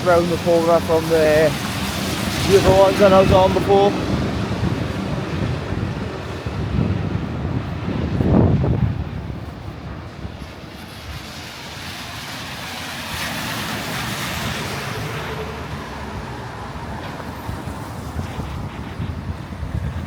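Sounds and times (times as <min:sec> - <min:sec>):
tyres hissing on wet road: 0:00.0 - 0:20.0.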